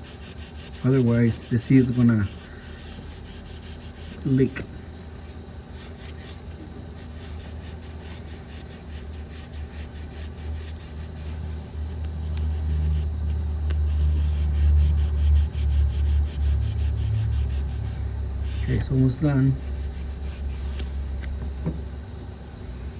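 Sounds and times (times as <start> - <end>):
abrasive pad scrubbing metal: 0.0 - 4.6, 5.2 - 20.8.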